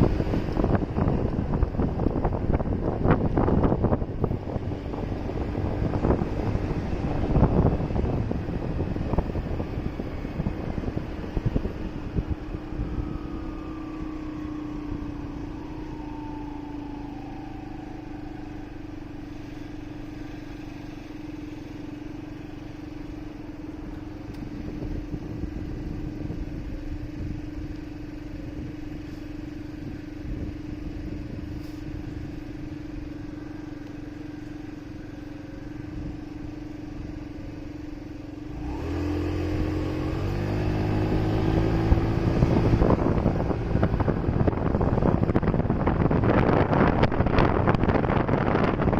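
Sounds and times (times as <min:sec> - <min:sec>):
city traffic rumble: 0:00.0 - 0:48.9
motorcycle engine running: 0:00.0 - 0:48.9.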